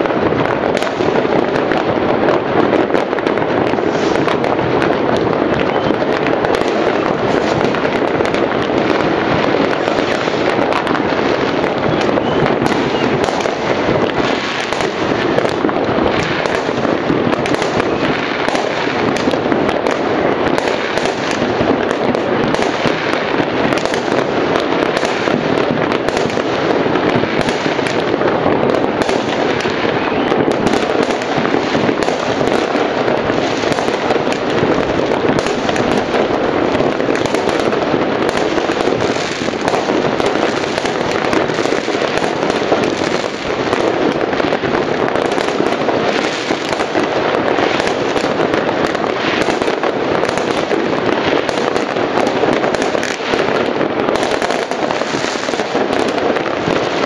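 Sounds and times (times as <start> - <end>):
fireworks and firecrackers barrage: 0.0 - 57.0.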